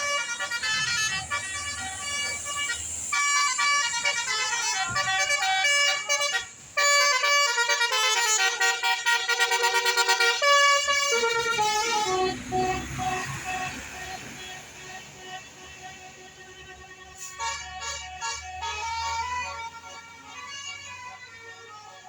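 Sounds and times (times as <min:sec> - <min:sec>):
musical air horn playing a tune: 0:00.0 - 0:22.0.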